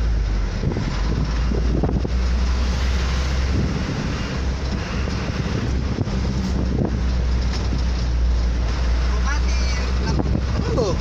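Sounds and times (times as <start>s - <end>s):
rumble of traffic: 0.0s - 11.0s
wind buffeting microphone: 0.0s - 11.0s.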